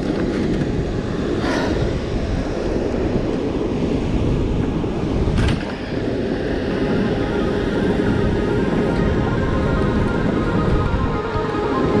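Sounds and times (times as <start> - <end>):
churning water rushing: 0.0 - 12.0
wind buffeting microphone: 0.0 - 12.0.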